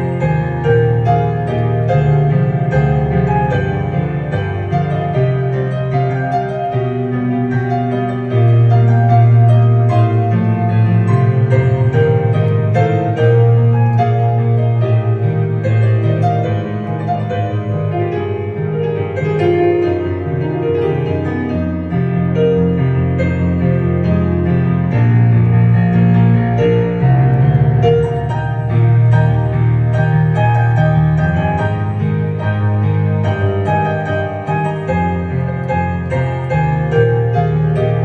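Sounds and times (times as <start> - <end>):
digital piano playing: 0.0 - 38.0.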